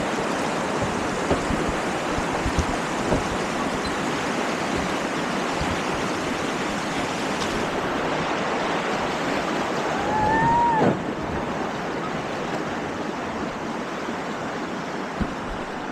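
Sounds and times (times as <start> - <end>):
river rapids rushing: 0.0 - 15.9.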